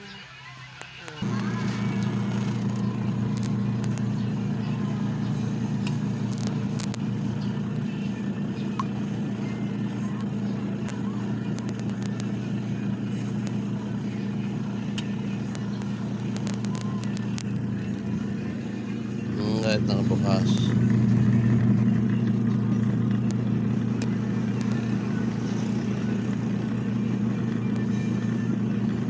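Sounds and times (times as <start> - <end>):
spin-dryer motor hum: 0.8 - 29.0.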